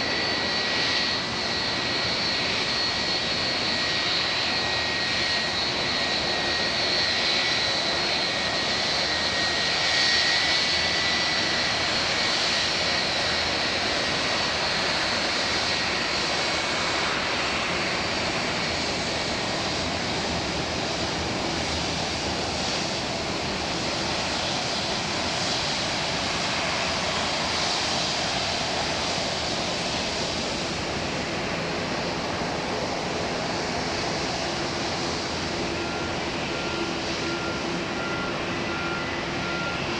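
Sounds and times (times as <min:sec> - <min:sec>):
high turbine whine: 0:00.0 - 0:39.9
jet engines roaring: 0:00.0 - 0:39.9.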